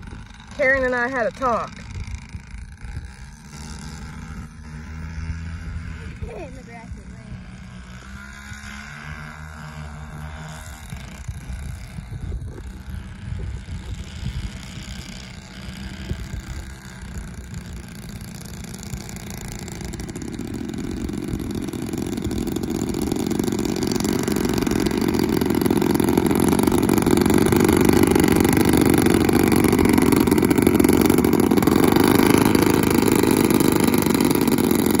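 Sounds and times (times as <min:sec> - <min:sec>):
model plane propellers and motors: 0:00.0 - 0:35.0.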